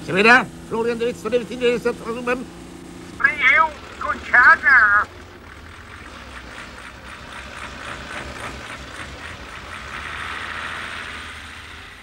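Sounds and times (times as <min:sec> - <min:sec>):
fire engine hum: 0:00.0 - 0:12.0.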